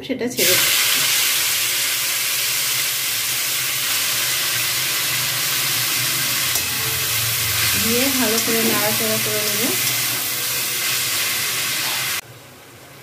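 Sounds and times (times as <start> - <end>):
leaves sizzling in hot oil: 0.4 - 12.2.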